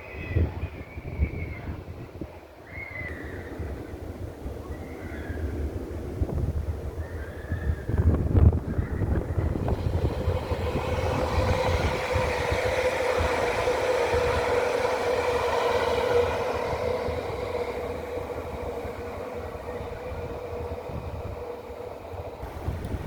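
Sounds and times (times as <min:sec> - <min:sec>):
train running past: 0:00.0 - 0:23.0.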